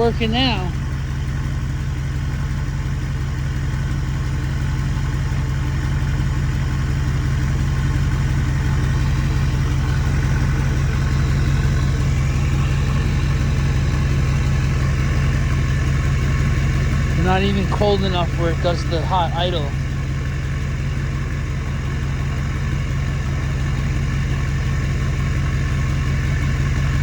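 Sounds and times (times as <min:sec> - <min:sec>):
diesel engine idling: 0:00.0 - 0:27.0
faint turbo whine: 0:00.0 - 0:27.0.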